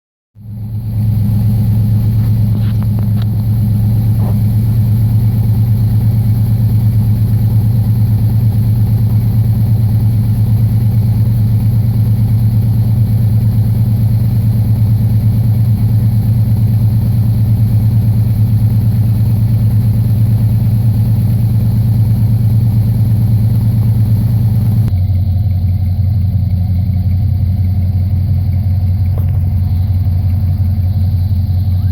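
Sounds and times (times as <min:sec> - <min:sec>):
car engine idling: 0:00.4 - 0:31.9.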